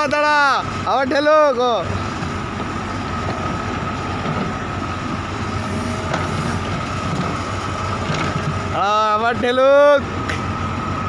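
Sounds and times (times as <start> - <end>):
diesel engine rumbling under load: 0.0 - 11.0.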